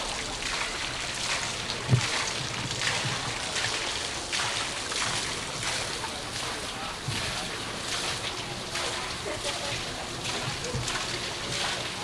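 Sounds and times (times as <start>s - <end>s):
outdoor crowd noise: 0.0s - 12.0s.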